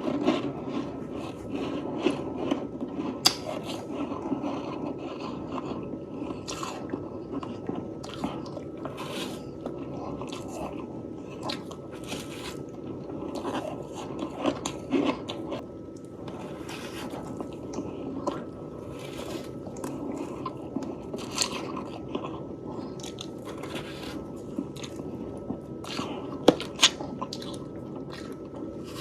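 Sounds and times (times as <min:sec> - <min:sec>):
chewing crunchy frost: 0:00.0 - 0:29.0
faint steady hum: 0:00.0 - 0:29.0.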